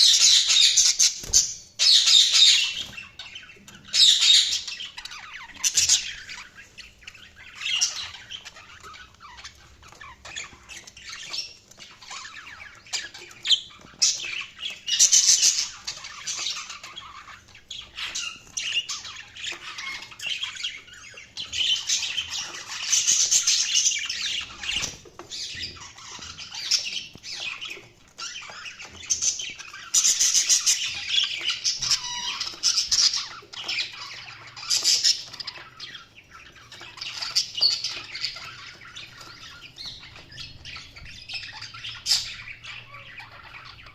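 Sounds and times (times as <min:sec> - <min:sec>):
budgerigars chirping and squawking: 0:00.0 - 0:43.9.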